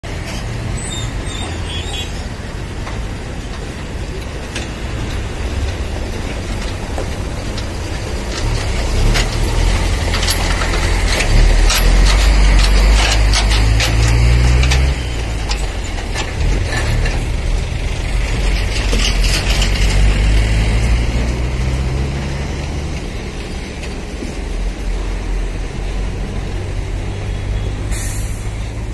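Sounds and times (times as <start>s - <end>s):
sharp clanks and rattles: 0.0s - 25.7s
heavy vehicle engine running: 0.0s - 28.9s.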